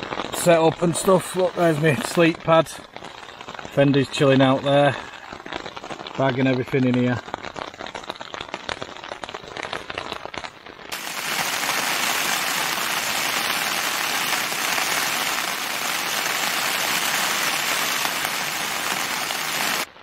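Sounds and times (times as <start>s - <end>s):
heavy rain on a tent: 0.0s - 20.0s.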